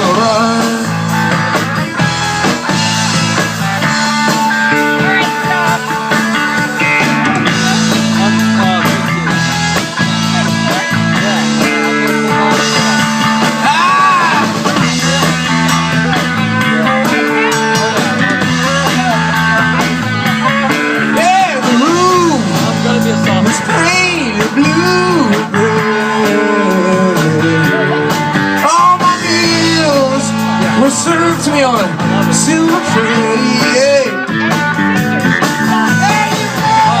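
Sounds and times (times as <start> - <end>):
drum kit: 0.0 - 37.0.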